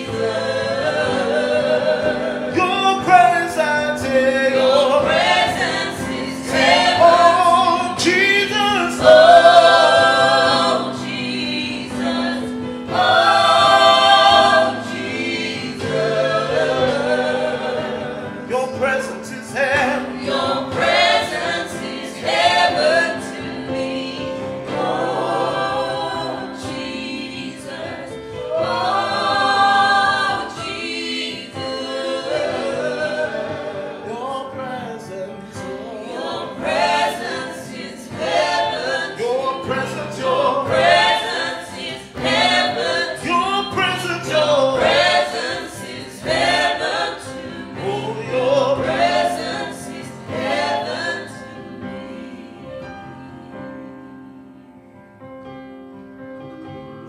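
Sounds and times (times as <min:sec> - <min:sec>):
group singing gospel: 0:00.0 - 0:54.0
held keyboard chords: 0:00.0 - 0:57.0.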